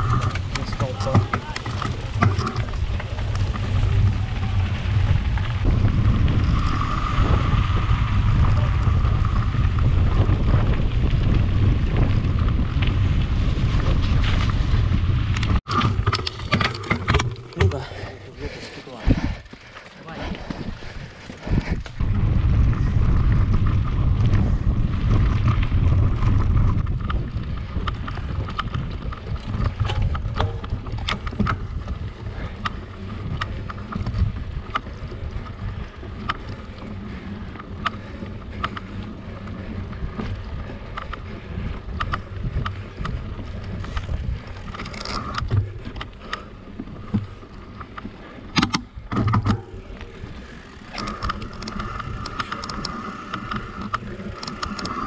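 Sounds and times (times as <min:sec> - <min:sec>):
bike clicks and rattles: 0:00.0 - 0:55.0
wind rumbling on microphone: 0:00.0 - 0:55.0.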